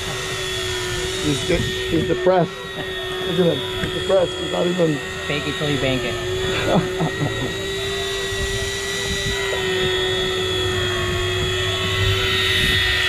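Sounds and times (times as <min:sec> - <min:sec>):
fishing reel motor whine: 0:00.0 - 0:13.0.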